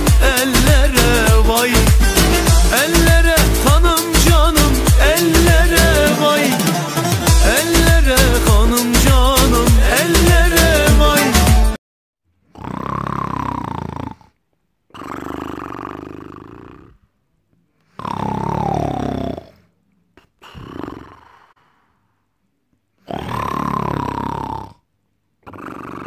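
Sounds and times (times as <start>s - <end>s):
man snoring loudly: 0.0s - 11.8s, 12.5s - 17.0s, 17.9s - 19.7s, 20.3s - 21.6s, 23.0s - 24.8s, 25.4s - 26.0s.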